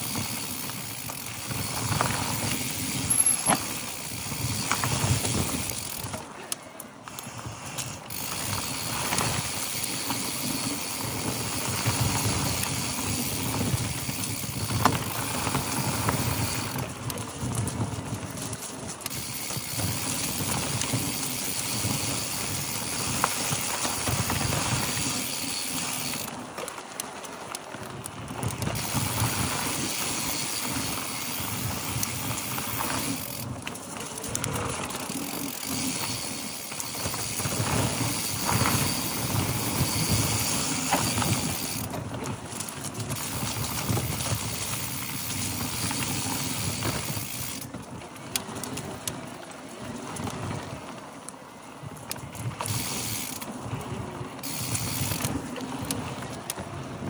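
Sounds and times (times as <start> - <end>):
bike rattling over bumps: 0.0 - 57.0
bike tyres crunching over dirt: 0.0 - 57.0.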